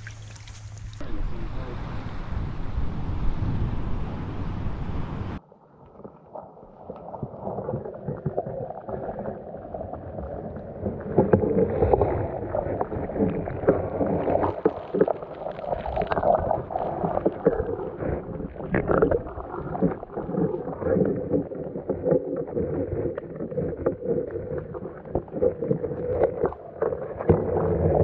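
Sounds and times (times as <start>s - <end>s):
underwater seawater rushing: 0.0s - 28.0s.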